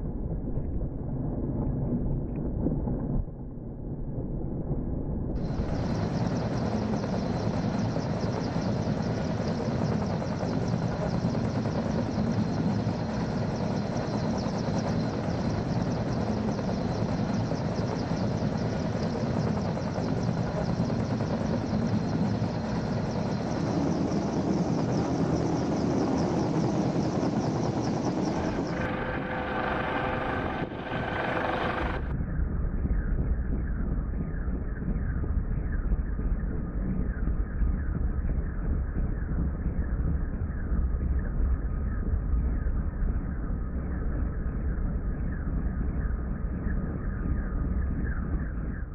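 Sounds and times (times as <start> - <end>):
steady whine: 0.0 - 48.9
helicopter rotor and turbine noise: 5.3 - 48.9.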